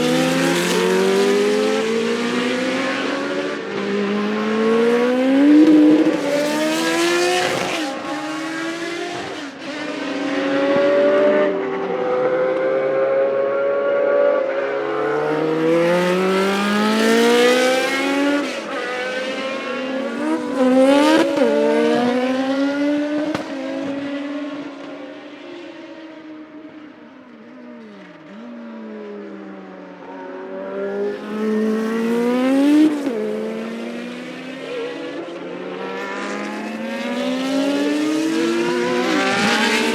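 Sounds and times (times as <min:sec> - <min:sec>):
race car engines at high revs: 0:00.0 - 0:39.9.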